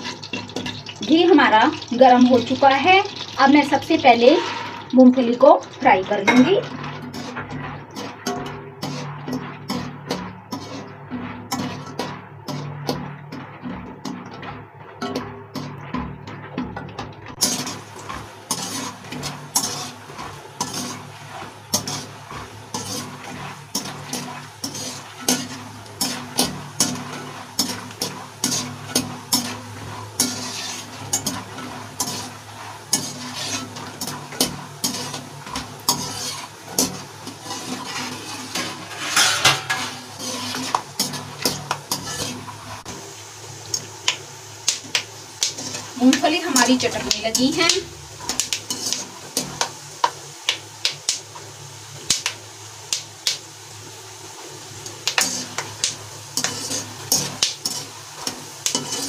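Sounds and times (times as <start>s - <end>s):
metal skimmer scraping pan: 0.0s - 43.0s, 43.7s - 49.9s, 55.0s - 59.0s
peanuts sizzling in oil: 0.0s - 59.0s.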